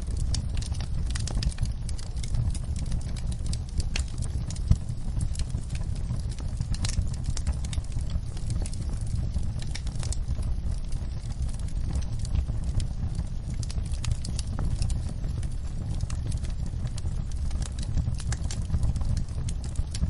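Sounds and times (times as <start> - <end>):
campfire wood crackling and popping: 0.0 - 20.0
low fire rumble: 0.0 - 20.0.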